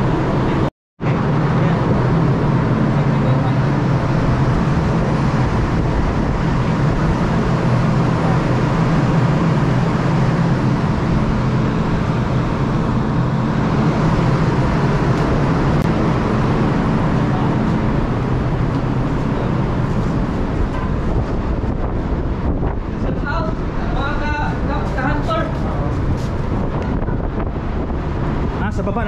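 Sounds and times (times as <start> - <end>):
ship machinery drone: 0.0 - 29.0.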